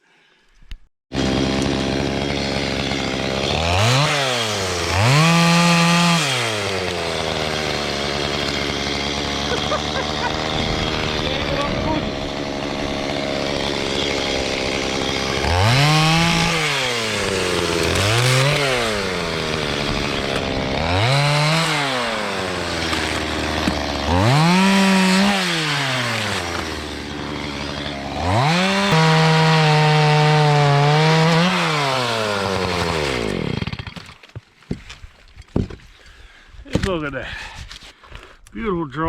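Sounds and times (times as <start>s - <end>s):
chainsaw revving: 1.1s - 34.3s.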